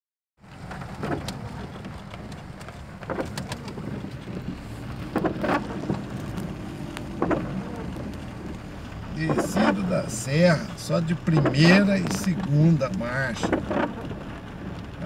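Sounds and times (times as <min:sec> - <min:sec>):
car engine and wet tyres rumble: 0:00.4 - 0:15.0
rain on car body: 0:00.4 - 0:15.0
windshield wipers swishing: 0:00.4 - 0:15.0.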